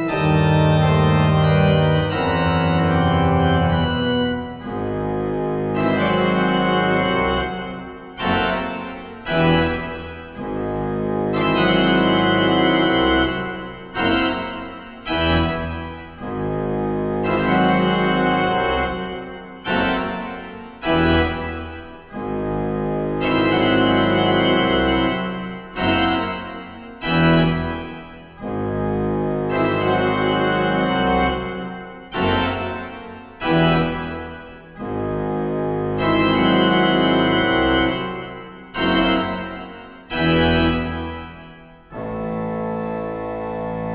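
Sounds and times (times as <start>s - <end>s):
pipe organ playing chords: 0.0s - 43.9s.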